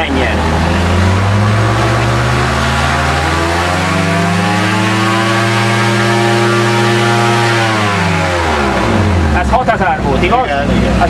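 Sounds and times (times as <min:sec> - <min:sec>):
engine revving up: 0:00.0 - 0:11.0.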